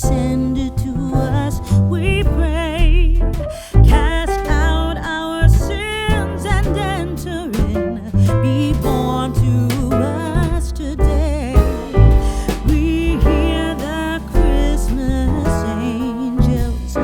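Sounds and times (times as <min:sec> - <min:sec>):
song with singing over beat: 0:03.4 - 0:17.0.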